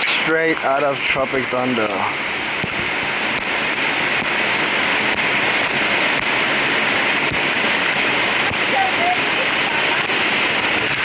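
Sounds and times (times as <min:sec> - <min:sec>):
heavy rain: 0:00.0 - 0:11.0
waterfall rushing: 0:00.0 - 0:11.0.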